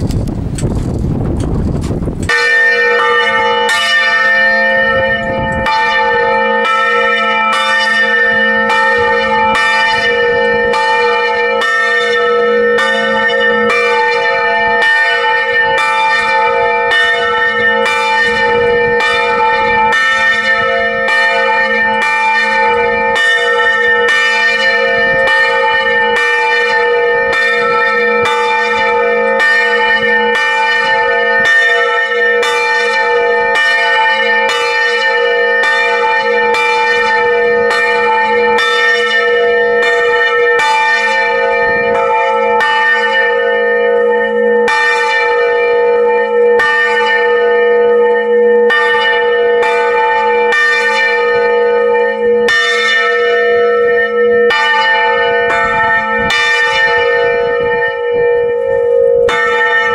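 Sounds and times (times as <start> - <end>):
large church bell ringing: 0.4 - 59.9.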